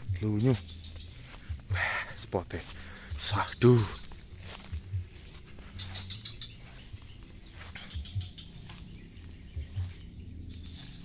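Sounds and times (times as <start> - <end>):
footsteps through tall grass: 0.0 - 11.0
insects droning: 0.0 - 11.0.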